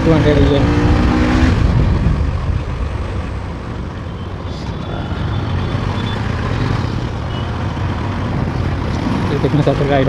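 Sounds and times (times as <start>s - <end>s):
motorcycle engine hum: 0.0s - 9.4s
wind and road noise: 0.0s - 10.0s.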